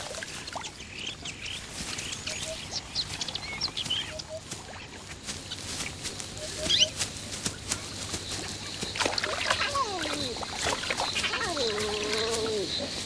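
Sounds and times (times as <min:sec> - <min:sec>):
wild birds chirping: 0:00.0 - 0:13.0.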